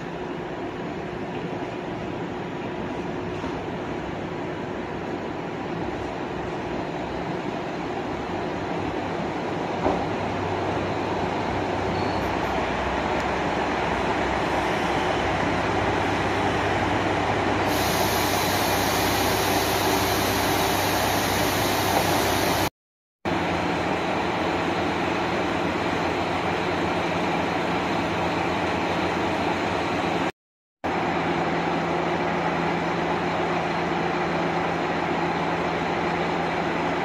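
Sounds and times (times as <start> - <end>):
diesel railcar engines running: 0.0 - 22.7, 23.3 - 37.0.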